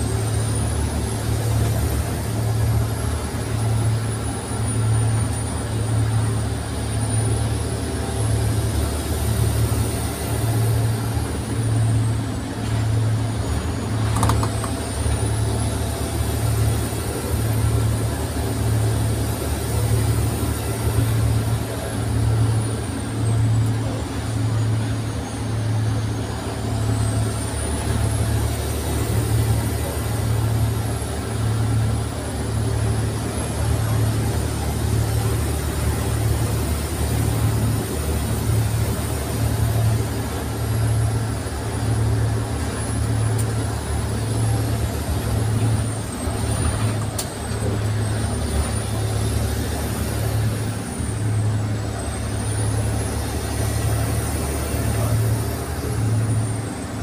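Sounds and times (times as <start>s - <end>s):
bus engine low drone: 0.0s - 57.0s.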